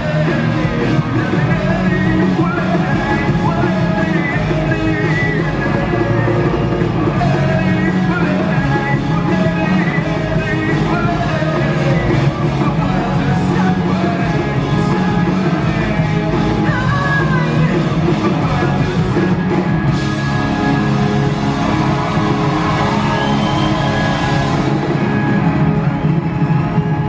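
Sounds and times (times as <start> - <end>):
person singing: 0.0 - 25.0
rock band playing live: 0.0 - 27.0.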